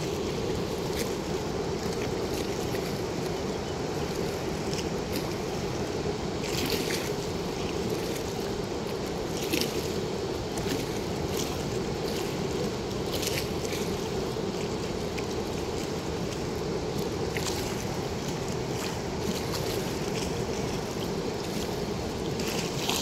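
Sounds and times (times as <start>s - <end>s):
water rushing through sluice gate: 0.0s - 23.0s.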